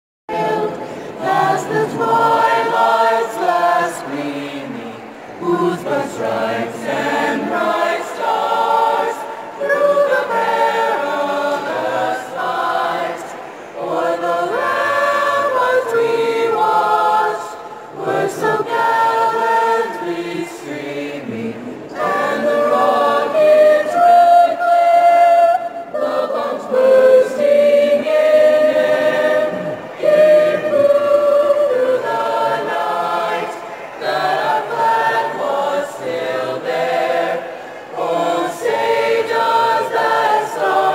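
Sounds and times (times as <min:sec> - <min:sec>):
choir singing a cappella: 0:00.3 - 0:40.9.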